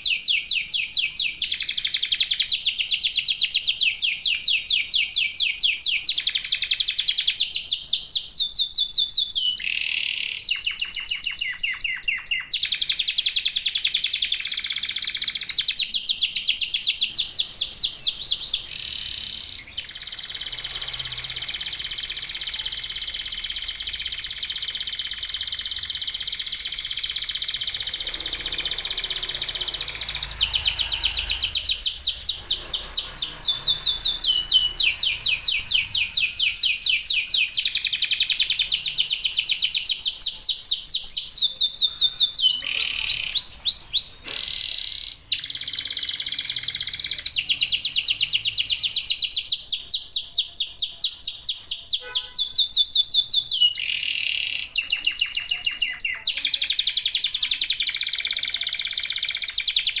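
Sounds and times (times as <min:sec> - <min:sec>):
canaries singing trills: 0:00.0 - 1:00.0.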